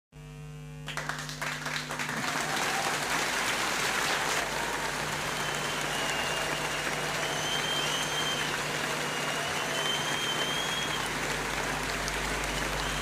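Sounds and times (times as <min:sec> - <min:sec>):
steady hum: 0:00.2 - 0:13.0
crowd clapping and cheering: 0:00.8 - 0:13.0.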